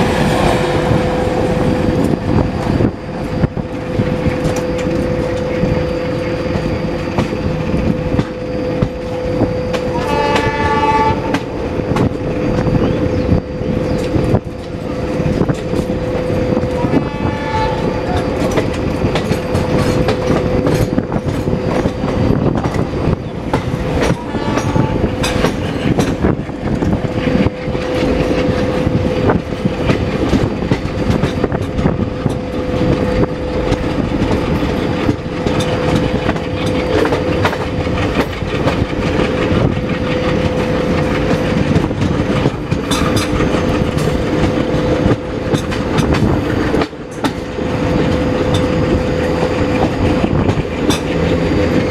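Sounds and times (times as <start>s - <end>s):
diesel locomotive chugging: 0.0s - 51.9s
steady whine: 0.0s - 51.9s
wheels clattering over rail joints: 0.0s - 51.9s.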